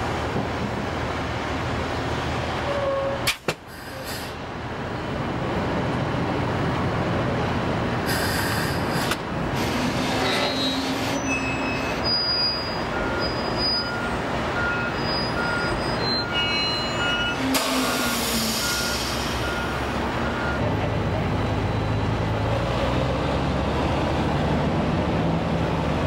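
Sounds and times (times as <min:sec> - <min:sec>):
heavy machinery diesel engine: 0:00.0 - 0:26.0.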